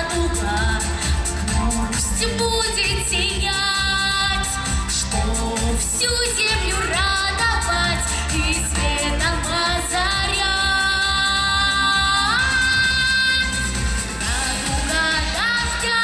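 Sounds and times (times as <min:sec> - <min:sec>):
backing track music: 0:00.0 - 0:16.0
girl singing pop song: 0:00.0 - 0:16.0.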